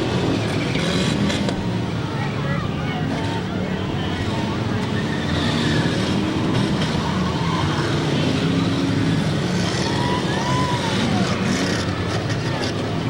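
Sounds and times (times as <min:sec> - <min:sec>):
many car engines revving: 0:00.0 - 0:13.0.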